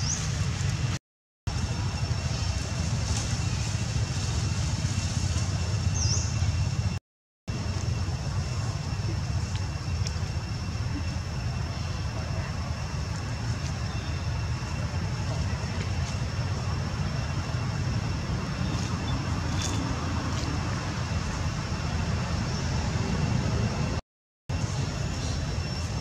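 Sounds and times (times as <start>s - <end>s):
constant low rumble: 0.0s - 26.0s.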